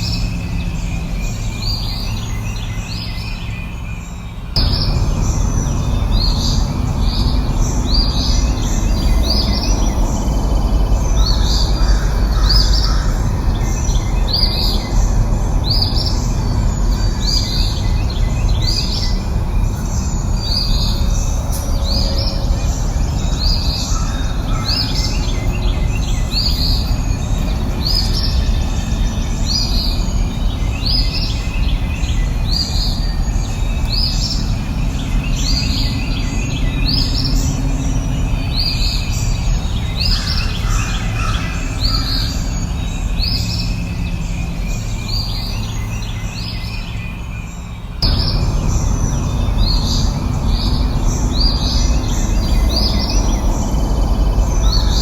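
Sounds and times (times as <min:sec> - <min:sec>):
low rushing background noise: 0:00.0 - 0:55.0
songbird chirping: 0:00.0 - 0:55.0.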